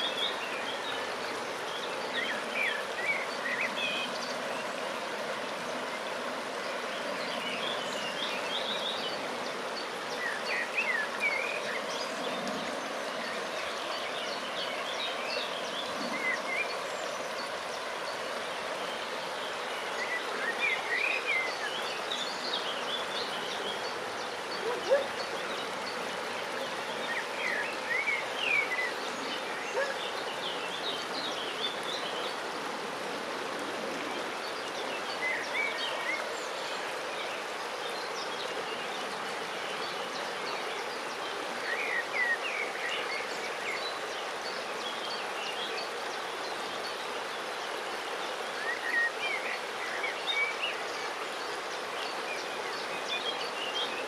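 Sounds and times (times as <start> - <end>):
river rippling over stones: 0.0 - 54.0.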